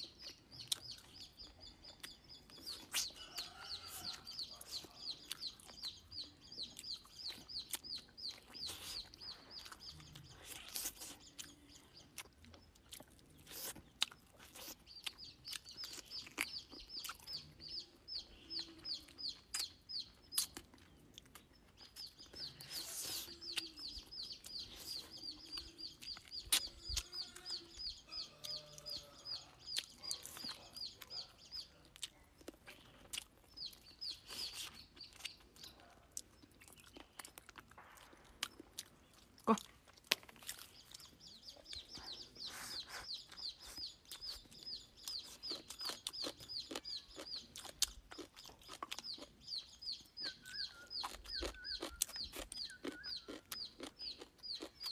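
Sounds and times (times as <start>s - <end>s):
bird chirping: 0.0s - 54.9s
person chewing: 0.0s - 54.9s.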